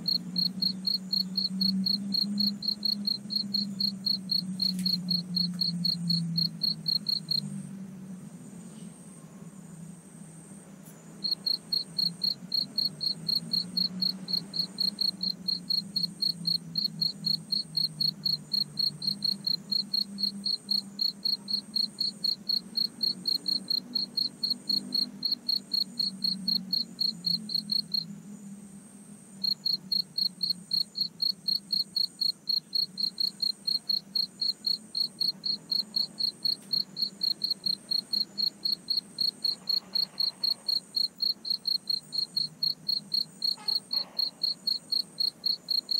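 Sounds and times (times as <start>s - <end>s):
high-pitched insect chirping: 0.0s - 7.5s, 11.2s - 28.1s, 29.4s - 45.9s.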